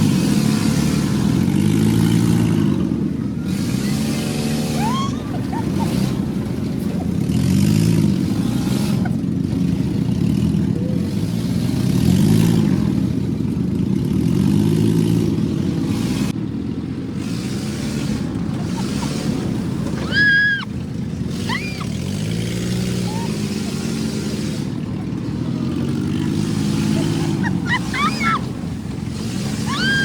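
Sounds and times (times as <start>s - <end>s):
vehicle engine under load: 0.0s - 30.0s.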